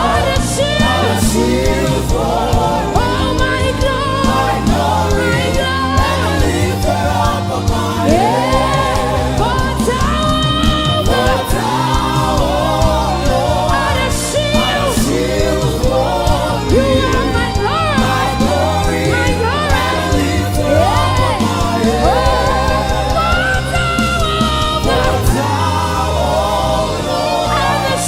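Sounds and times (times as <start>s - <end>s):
choir singing: 0.0s - 28.0s
instrumental backing: 0.0s - 28.0s
lead voice singing: 0.0s - 28.0s.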